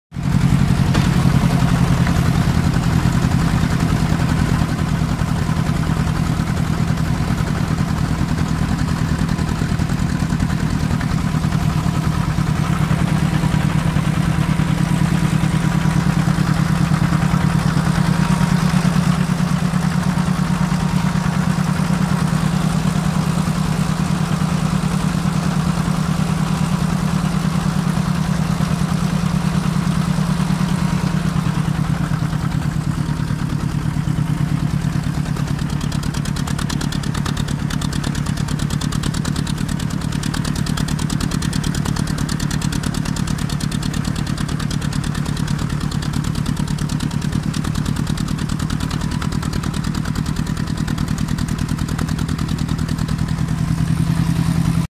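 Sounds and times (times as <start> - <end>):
snow plow engine running: 0.2 - 54.9.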